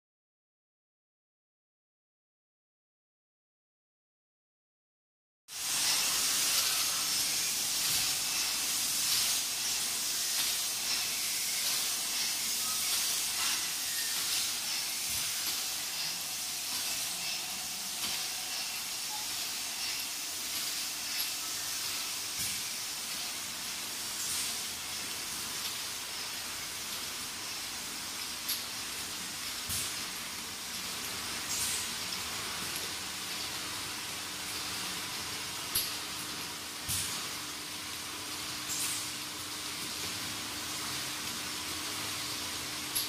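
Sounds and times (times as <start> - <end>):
bottling line hiss: 5.5 - 37.4, 38.0 - 43.0.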